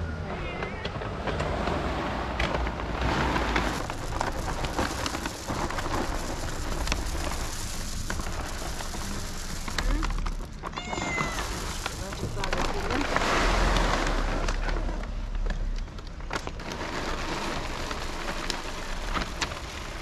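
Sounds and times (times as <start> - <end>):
paper bag rustling: 2.4 - 15.6, 16.2 - 20.0
kibble pattering onto stones: 3.0 - 20.0.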